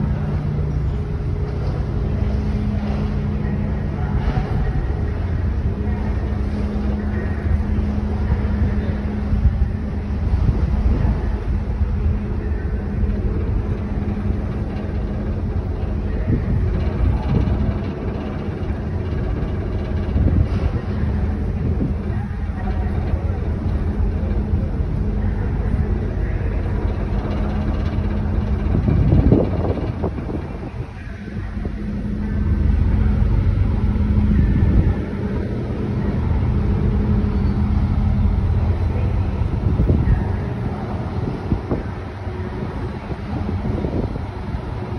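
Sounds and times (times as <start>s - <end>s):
ship engines rumbling: 0.0s - 44.9s.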